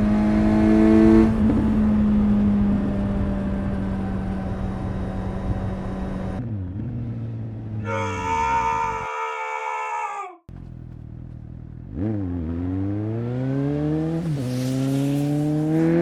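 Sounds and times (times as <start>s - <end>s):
motorcycle engine and exhaust: 0.0s - 7.9s, 10.5s - 16.0s.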